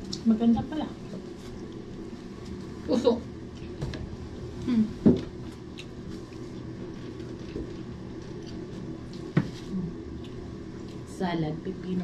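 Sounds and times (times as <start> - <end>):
eating and handling noises: 0.0 - 12.0
steady low hum: 0.0 - 12.0.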